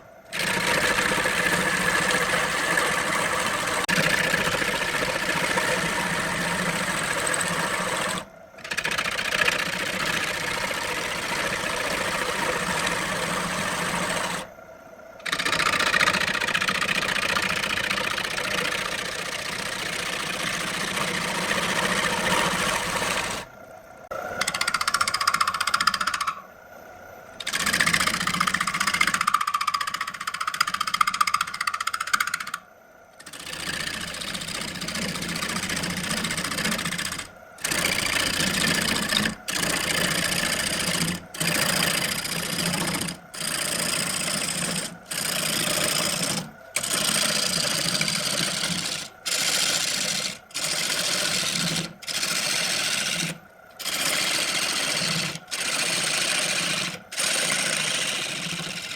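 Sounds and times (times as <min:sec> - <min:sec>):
wood lathe running: 0:00.0 - 0:14.5, 0:15.2 - 0:23.5, 0:24.1 - 0:26.4, 0:27.4 - 0:32.6, 0:33.2 - 0:58.9.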